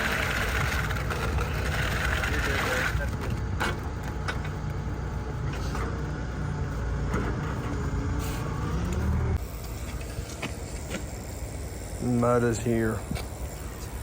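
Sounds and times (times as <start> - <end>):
heavy equipment engine rumbling: 0.0 - 14.0.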